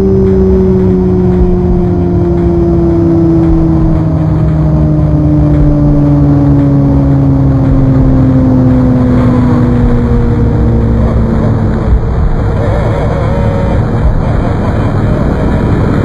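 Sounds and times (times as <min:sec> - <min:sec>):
rumbling drone falling in pitch: 0:00.0 - 0:16.0.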